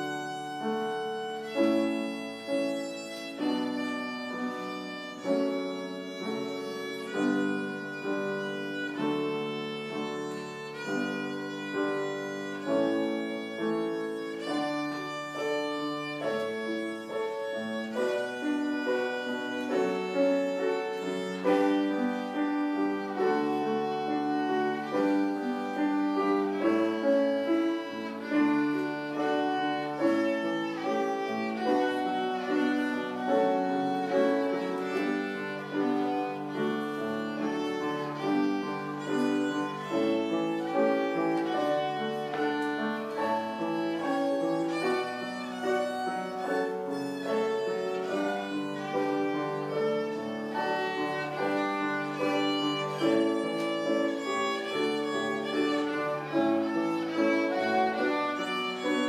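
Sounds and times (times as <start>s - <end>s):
piano accompaniment: 0.0s - 59.0s
violin melody: 0.0s - 59.0s.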